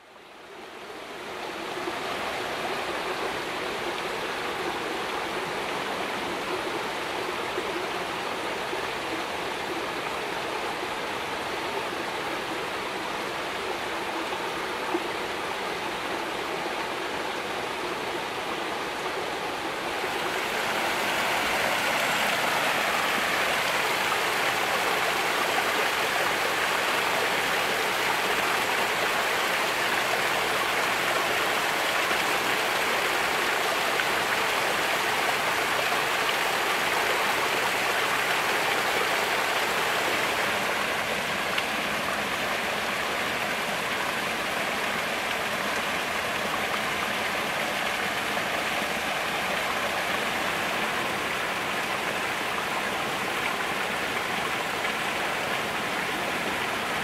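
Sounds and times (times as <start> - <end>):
waterfall rushing over rocks: 0.0 - 57.0.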